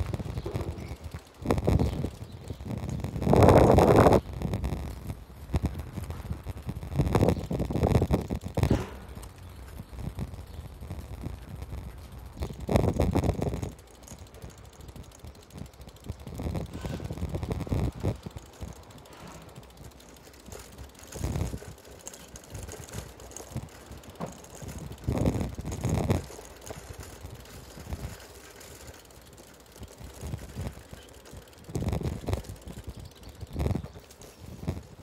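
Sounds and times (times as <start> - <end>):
faint street hush: 0.0 - 35.0
wind buffeting microphone: 0.0 - 35.0.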